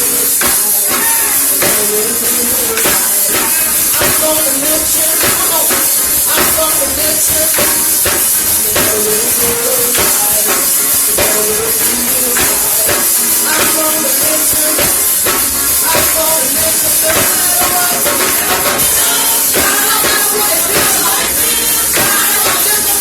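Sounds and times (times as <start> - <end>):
drum beat: 0.0 - 23.0
live gospel band: 0.0 - 23.0.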